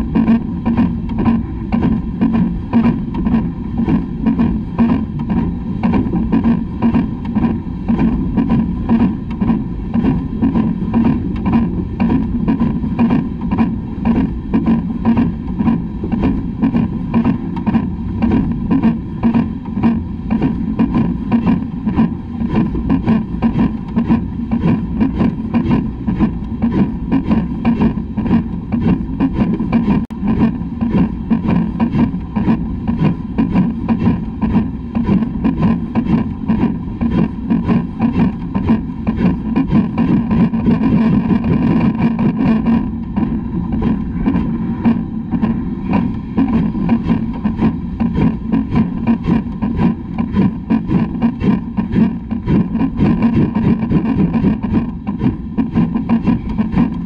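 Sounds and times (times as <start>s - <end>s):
steam locomotive exhaust beats: 0.0s - 57.0s
wheels rumbling on track: 0.0s - 57.0s.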